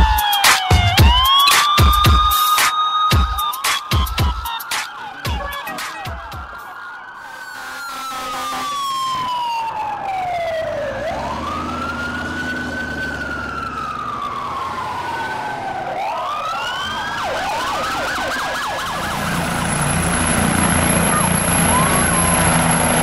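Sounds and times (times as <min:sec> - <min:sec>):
fire engine siren: 0:00.0 - 0:23.0.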